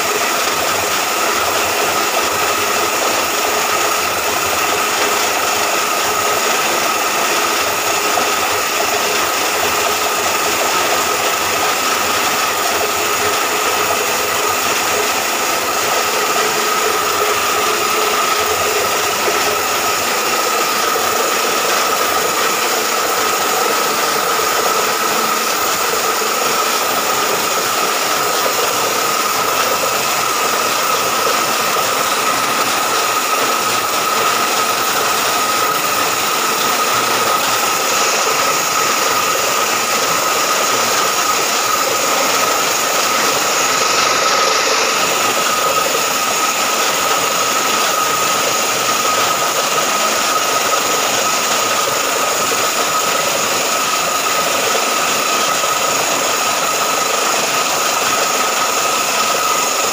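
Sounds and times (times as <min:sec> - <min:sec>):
drilling machine running: 0:00.0 - 0:59.9.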